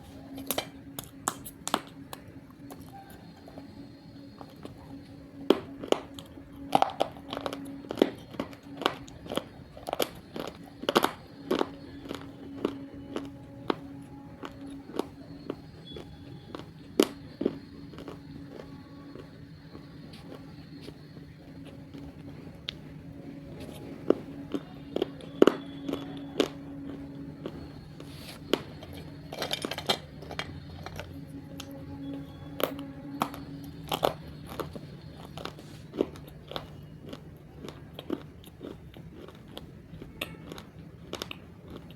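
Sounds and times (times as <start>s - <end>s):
brittle crunches of chewing: 0.0s - 41.9s
steady low hum: 0.0s - 41.9s.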